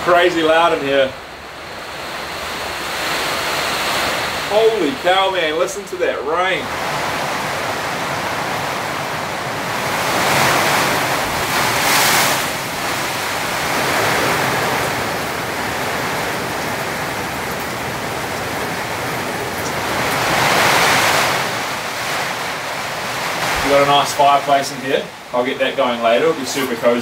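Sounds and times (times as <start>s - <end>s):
torrential rain on metal roof: 0.0s - 27.0s.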